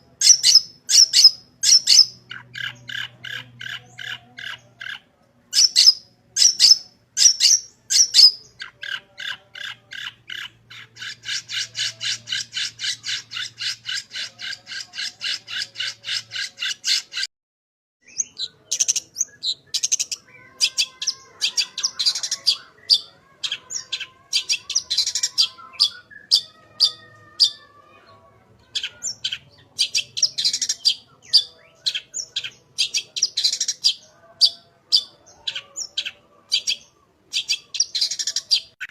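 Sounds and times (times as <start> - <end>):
bird singing harsh scratchy song: 0.1 - 17.3, 18.0 - 38.9.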